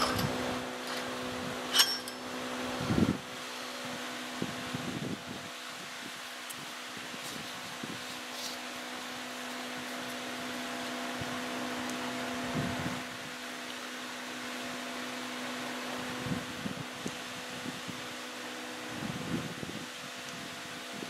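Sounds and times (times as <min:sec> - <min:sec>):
fan hum with air rush: 0:00.0 - 0:21.0.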